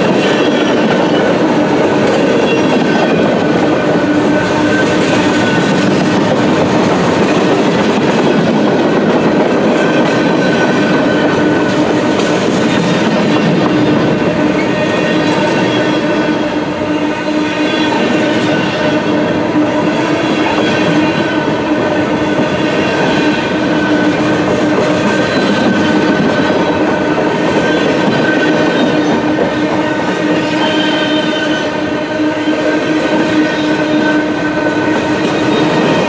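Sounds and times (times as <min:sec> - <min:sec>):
train wheels on rail: 0:00.0 - 0:36.0.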